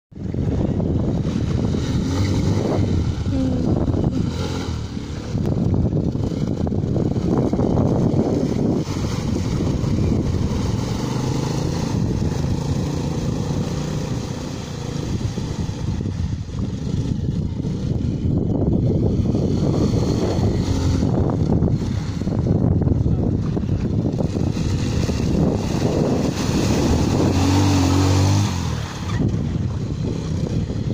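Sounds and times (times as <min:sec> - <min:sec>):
water splashing at wheels: 0:00.2 - 0:30.9
dirt bike engine revving: 0:00.8 - 0:15.7, 0:16.6 - 0:30.6.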